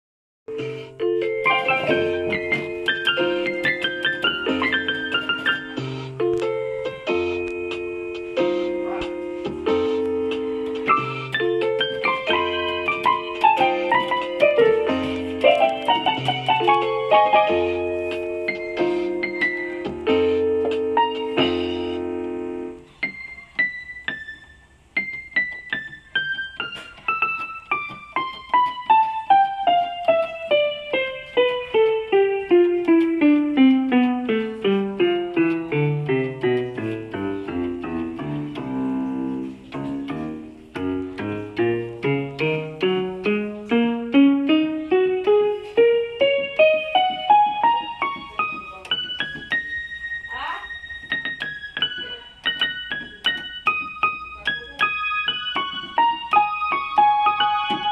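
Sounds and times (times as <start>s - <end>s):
electronic keyboard piano notes: 0.5s - 57.9s.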